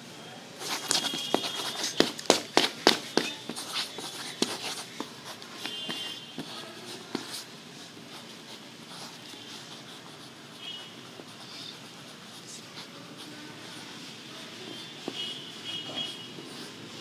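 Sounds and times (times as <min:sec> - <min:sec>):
pencil scribbling on paper: 0:00.6 - 0:07.5, 0:08.1 - 0:14.0, 0:14.6 - 0:17.0.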